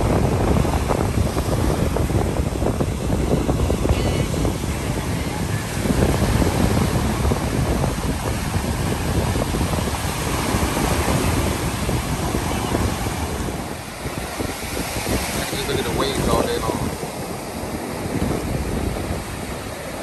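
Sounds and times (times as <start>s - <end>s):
ocean surf washing: 0.0s - 20.0s
wind buffeting microphone: 0.0s - 20.0s.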